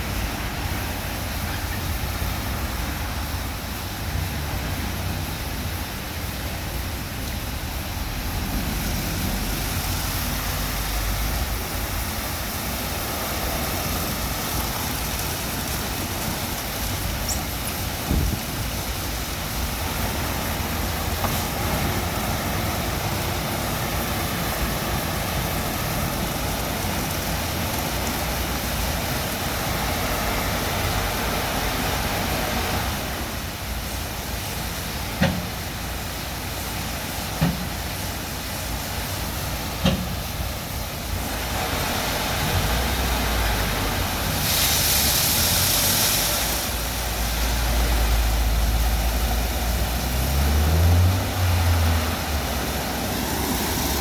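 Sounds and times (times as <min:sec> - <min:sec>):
car wash machine running: 0:00.0 - 0:54.0
loud hiss: 0:00.0 - 0:54.0.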